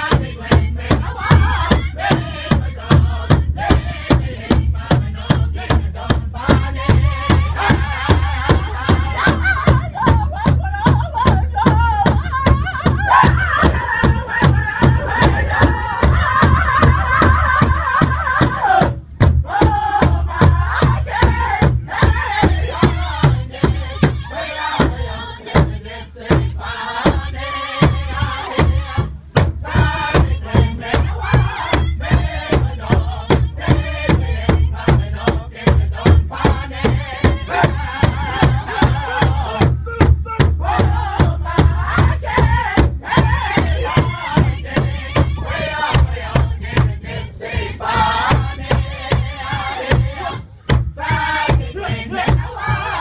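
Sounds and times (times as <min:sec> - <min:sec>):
group chanting: 0:00.0 - 0:53.0
large hide drum beat: 0:00.0 - 0:53.0.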